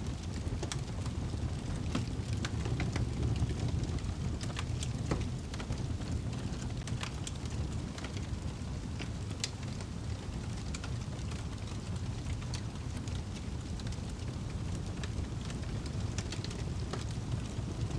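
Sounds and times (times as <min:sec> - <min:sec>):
wood fire crackling: 0:00.0 - 0:17.9.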